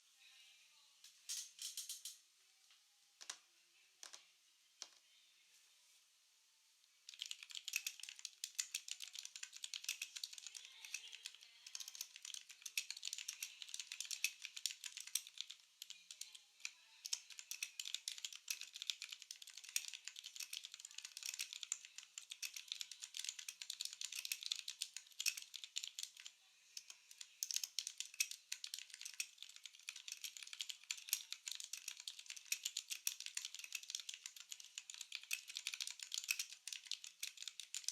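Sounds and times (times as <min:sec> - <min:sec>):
mechanical keyboard typing: 0:07.0 - 0:37.9.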